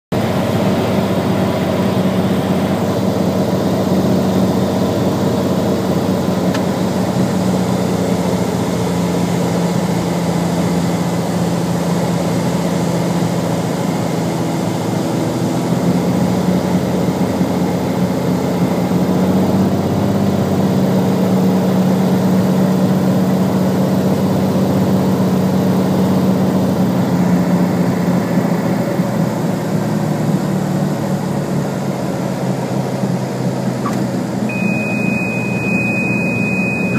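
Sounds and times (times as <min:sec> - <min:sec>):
propeller plane engine droning: 0:00.1 - 0:36.9.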